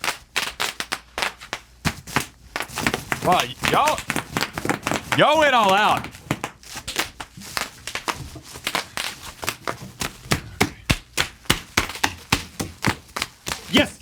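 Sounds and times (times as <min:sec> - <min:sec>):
bubble wrap popping: 0:00.0 - 0:14.0
plastic crinkling: 0:00.0 - 0:14.0.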